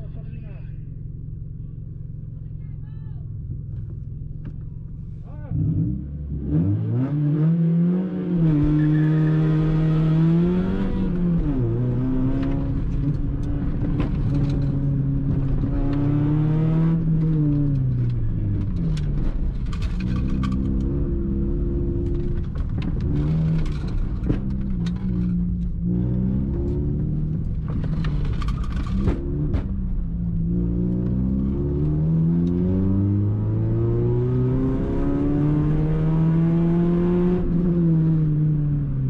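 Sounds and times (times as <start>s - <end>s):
car engine revving: 3.4s - 39.0s.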